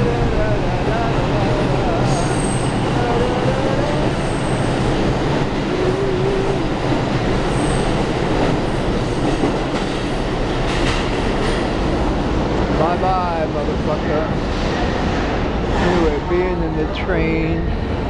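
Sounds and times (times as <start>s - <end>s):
subway train wheels on rail: 0.0s - 18.0s.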